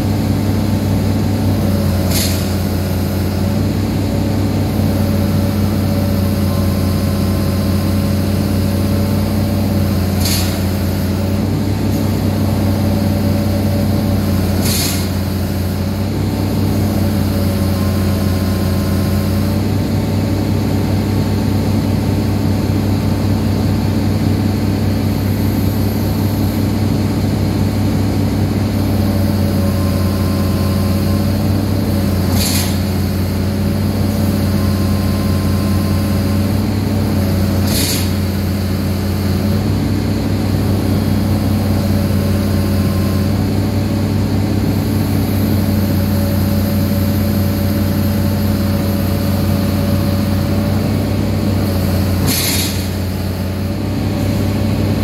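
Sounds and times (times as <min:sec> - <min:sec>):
excavator engine idling: 0:00.0 - 0:55.0.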